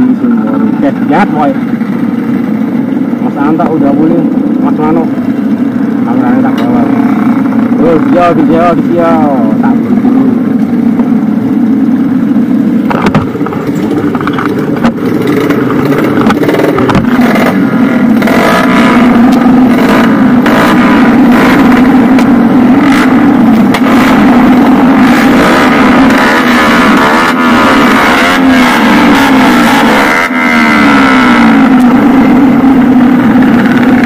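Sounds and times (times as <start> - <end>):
motorcycle engines revving: 0.0 - 34.0
motorcycle engines running: 0.0 - 34.0.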